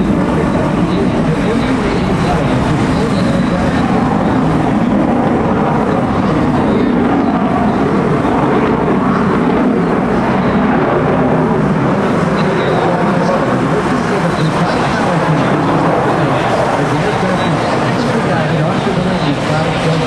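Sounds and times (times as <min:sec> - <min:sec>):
jet aircraft flying overhead: 0:00.0 - 0:20.0.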